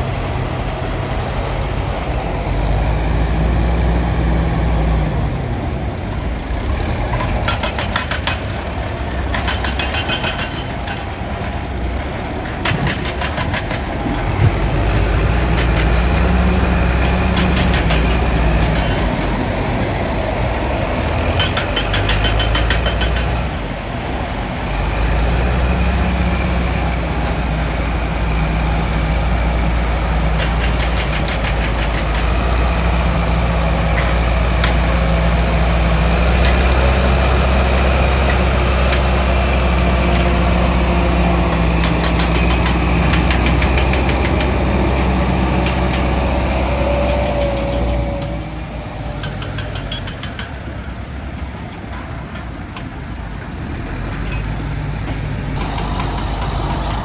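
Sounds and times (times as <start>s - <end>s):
heavy machinery engine running: 0.0s - 50.8s, 53.0s - 57.0s.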